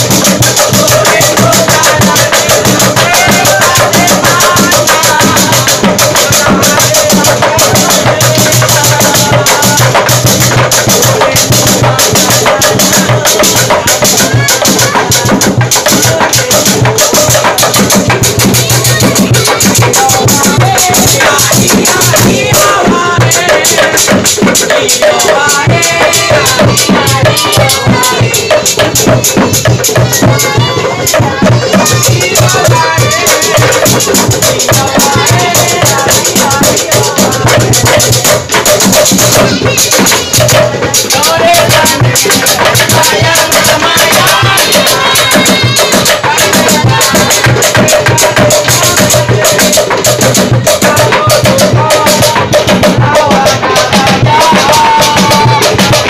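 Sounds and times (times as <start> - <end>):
man singing loudly: 0.0 - 38.6, 39.2 - 56.0
hand drum and rattling percussion: 0.0 - 56.0.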